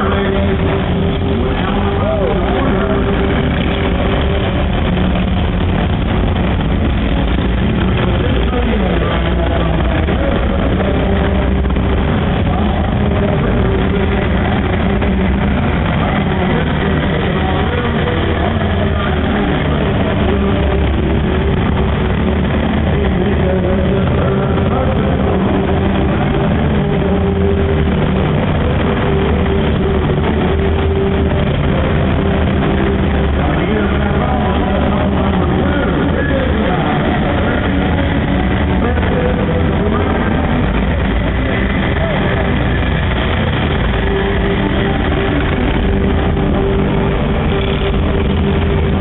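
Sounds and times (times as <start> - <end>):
square-dance music: 0.0 - 49.0
tractor engines droning: 0.0 - 49.0.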